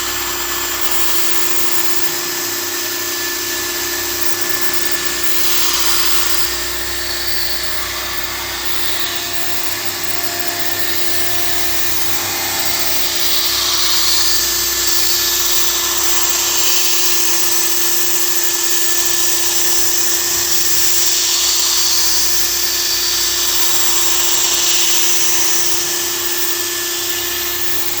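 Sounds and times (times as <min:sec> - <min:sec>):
cutter hissing through metal: 0:00.0 - 0:28.0
milling machine spindle whine: 0:00.0 - 0:28.0.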